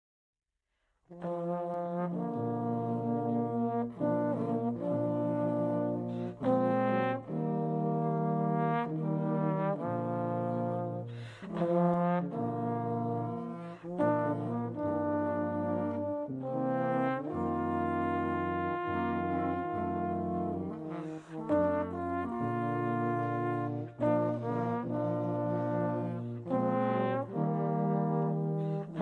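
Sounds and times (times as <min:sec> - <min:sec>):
brass ensemble playing: 0:01.1 - 0:29.0.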